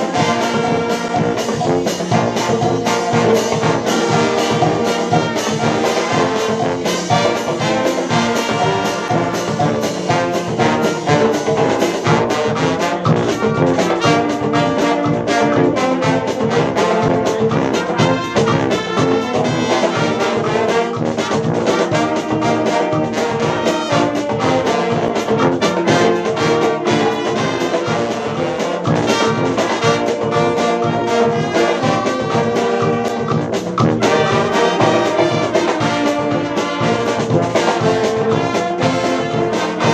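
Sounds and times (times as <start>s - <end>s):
brass band playing: 0.0s - 39.9s
snare and bass drums beat: 0.0s - 39.9s.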